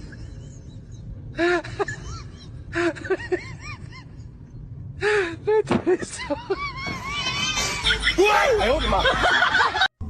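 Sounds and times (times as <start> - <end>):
low background rumble: 0.0 - 9.9.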